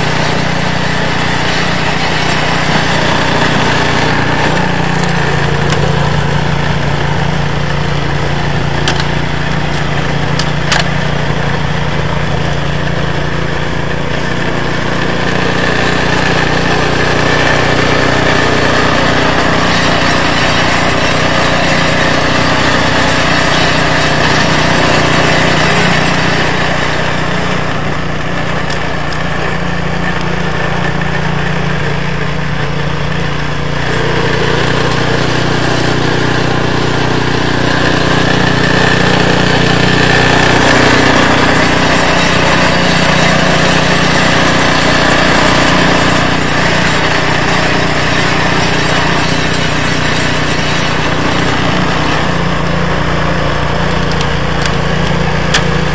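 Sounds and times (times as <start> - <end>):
snowblower running: 0.0 - 55.9.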